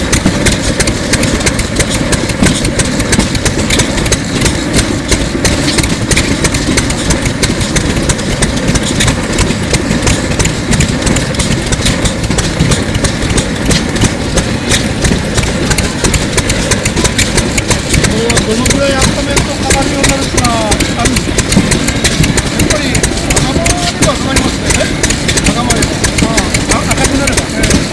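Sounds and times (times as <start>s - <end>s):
stationary engine running: 0.0s - 27.9s.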